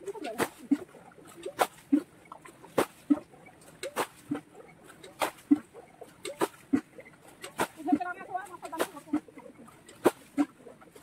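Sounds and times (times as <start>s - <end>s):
metal pan scooping water splashes: 0.0s - 11.0s.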